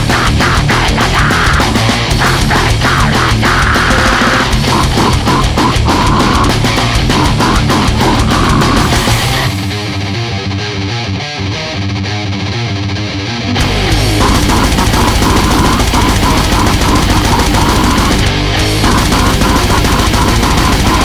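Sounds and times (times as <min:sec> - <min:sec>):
fast dense drumming: 0:00.0 - 0:09.9, 0:13.6 - 0:21.0
distorted guitars: 0:00.0 - 0:21.0.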